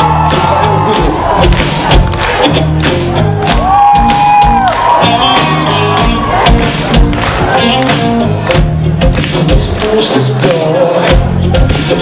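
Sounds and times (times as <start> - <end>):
crowd noise: 0.0 - 12.0
rock band playing live: 0.0 - 12.0.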